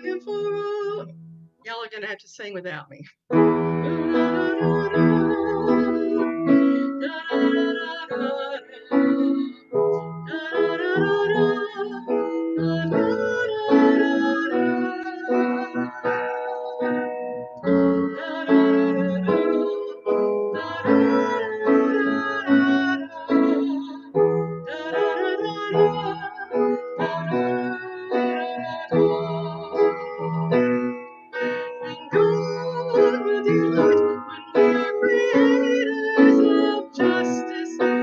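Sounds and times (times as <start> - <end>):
person singing a hymn: 0.0 - 1.1, 3.4 - 38.0
instrumental accompaniment: 0.0 - 38.0.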